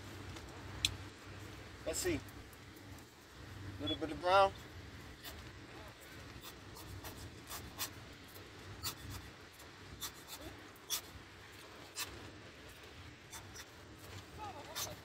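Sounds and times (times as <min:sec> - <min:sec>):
low steady background rumble: 0:00.0 - 0:15.0.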